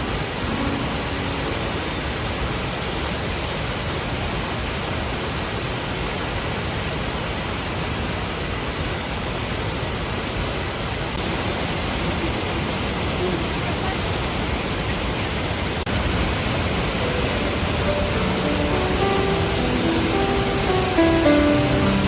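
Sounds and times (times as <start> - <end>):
falling water rushing: 0.0 - 22.0.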